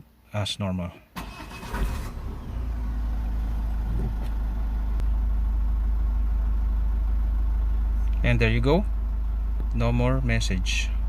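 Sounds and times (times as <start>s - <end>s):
car engine starting and idling: 1.2s - 11.0s.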